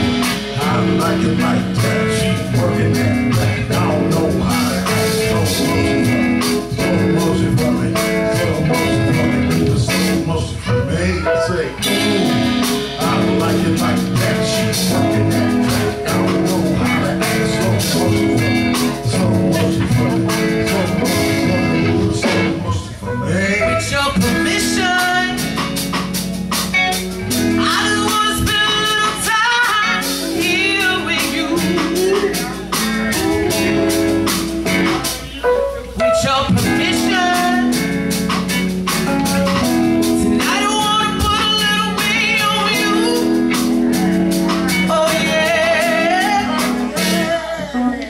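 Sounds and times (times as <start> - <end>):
drums with steady beat: 0.0 - 10.8, 11.7 - 23.0, 23.9 - 47.6
person singing: 0.0 - 26.6, 27.4 - 48.0
electric guitar: 0.0 - 48.0.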